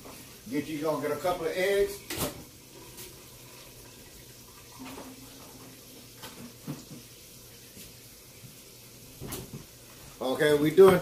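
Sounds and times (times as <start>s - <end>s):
faint steady hum: 0.0s - 10.8s.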